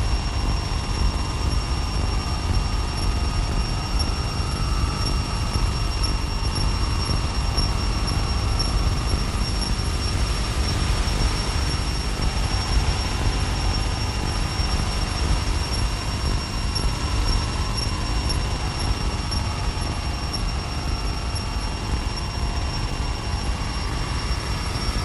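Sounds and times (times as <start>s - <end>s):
deep rumble: 0.0s - 25.0s
electronic feedback noise: 0.0s - 25.0s
thin high whine: 0.0s - 25.0s.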